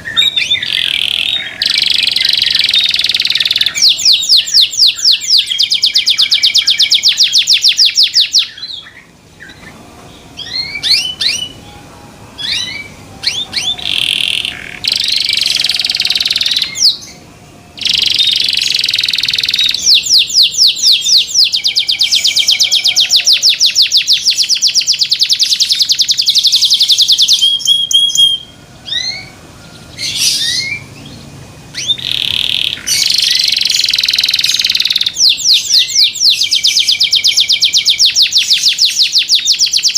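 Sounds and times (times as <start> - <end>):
canary trilling song: 0.0 - 39.9
canary single chirps: 0.1 - 9.7, 10.4 - 11.6, 12.4 - 17.2, 17.8 - 29.3, 30.0 - 39.9.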